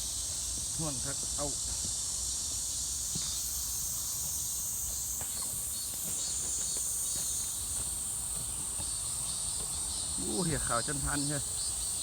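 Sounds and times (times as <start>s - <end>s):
insects singing: 0.0s - 12.0s.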